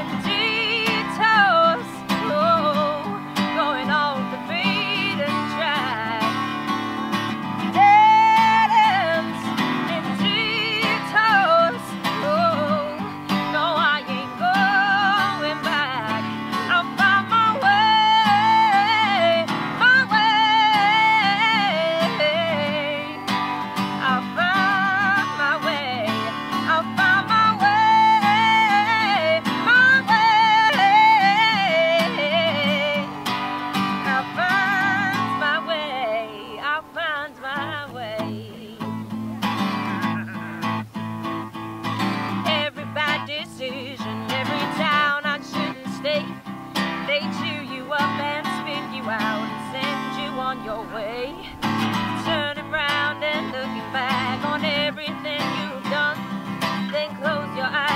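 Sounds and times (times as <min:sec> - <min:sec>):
woman singing: 0:00.0 - 0:39.2, 0:41.8 - 0:57.9
strummed acoustic guitar: 0:00.0 - 0:57.9.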